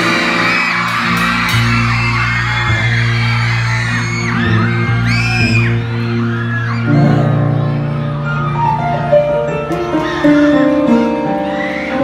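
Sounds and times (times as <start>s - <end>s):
crowd yelling and whooping: 0.0s - 12.0s
live band music through speakers: 0.0s - 12.0s.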